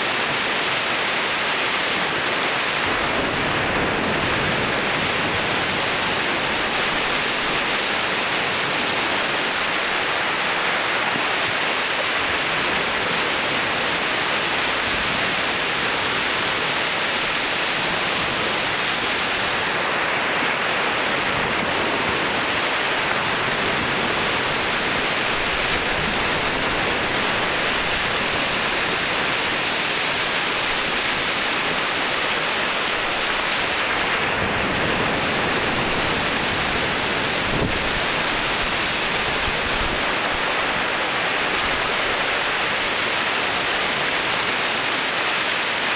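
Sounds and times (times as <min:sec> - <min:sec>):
ocean surf on beach: 0:00.0 - 0:45.9.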